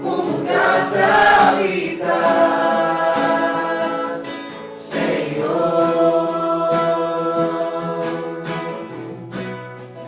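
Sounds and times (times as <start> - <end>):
group singing worship song: 0.0 - 9.0
acoustic guitar strumming: 0.0 - 10.0.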